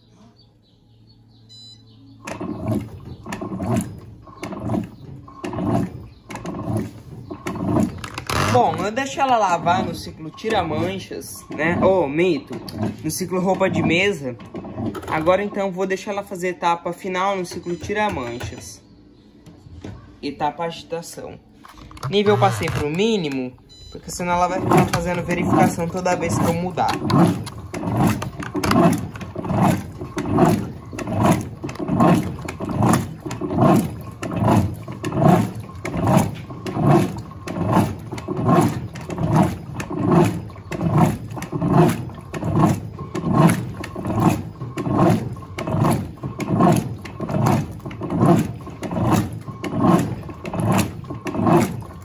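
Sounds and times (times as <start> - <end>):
washing machine agitator sloshing water: 2.2 - 18.8, 20.3 - 52.0.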